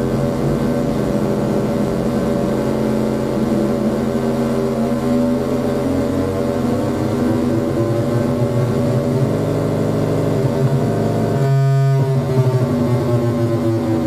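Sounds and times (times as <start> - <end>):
harsh buzzing electronic tones: 0.0 - 14.0
low hum: 0.0 - 14.0
steady low tone: 0.0 - 14.0.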